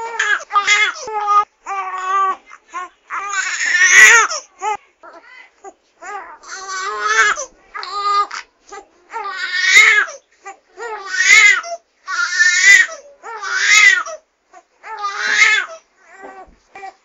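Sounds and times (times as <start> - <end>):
baby crying: 0.0 - 17.0.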